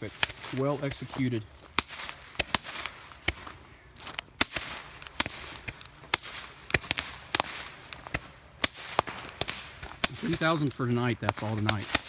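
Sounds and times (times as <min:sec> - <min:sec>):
fireworks bangs: 0:00.0 - 0:03.6, 0:04.3 - 0:12.0
faint fireworks crackling: 0:00.0 - 0:12.0.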